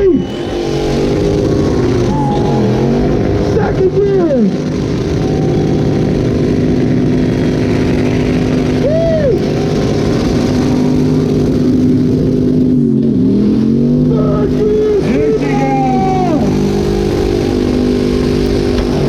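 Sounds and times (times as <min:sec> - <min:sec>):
engine at high revs: 0:00.0 - 0:19.0.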